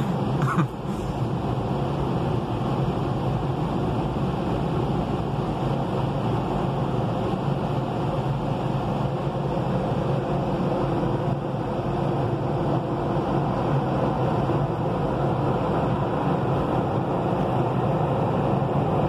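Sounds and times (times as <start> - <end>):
car wash machinery rushing: 0.0 - 19.0
constant hum: 0.0 - 19.0.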